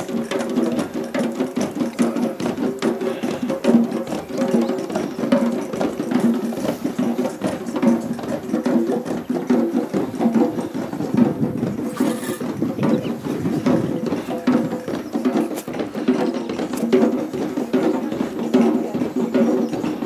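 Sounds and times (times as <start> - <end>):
group of drummers playing: 0.0 - 20.0.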